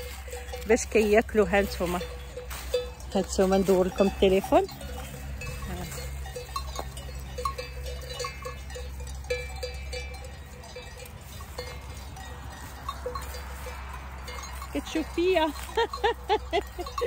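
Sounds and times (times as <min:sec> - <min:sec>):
sheep bells clinking: 0:00.0 - 0:17.0.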